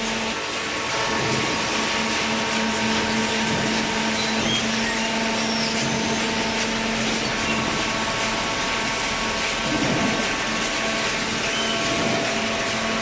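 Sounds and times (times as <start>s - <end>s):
baler motor and pump hum: 0.0s - 13.0s
loud mechanical noise: 0.0s - 13.0s.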